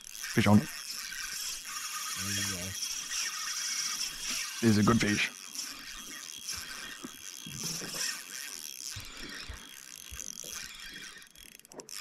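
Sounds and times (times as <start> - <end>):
fishing reel clicking: 0.0 - 12.0.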